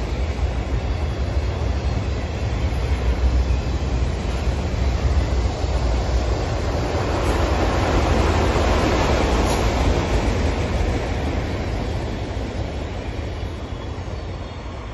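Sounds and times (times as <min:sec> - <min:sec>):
freight train wheels rumbling: 0:00.0 - 0:14.9.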